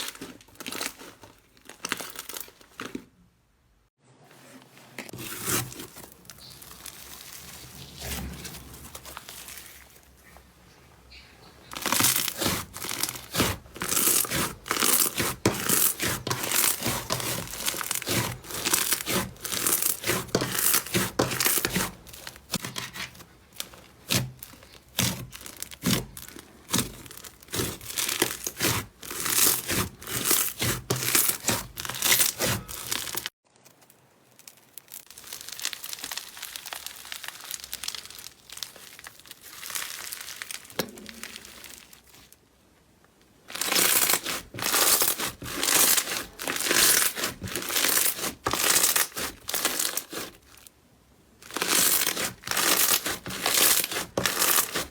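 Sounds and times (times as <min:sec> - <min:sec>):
slime crackling and popping: 0:00.0 - 0:03.0, 0:11.7 - 0:42.4, 0:43.5 - 0:50.7, 0:51.4 - 0:54.9.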